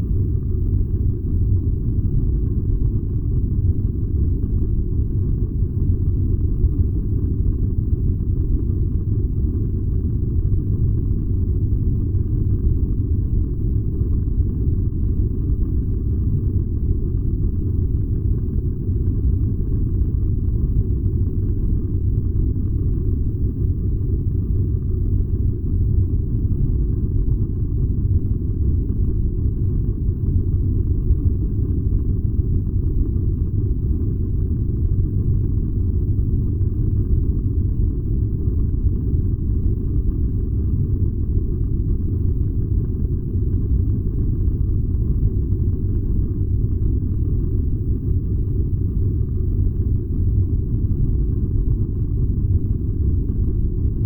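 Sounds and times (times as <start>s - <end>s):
furnace deep rumble: 0.0s - 54.0s.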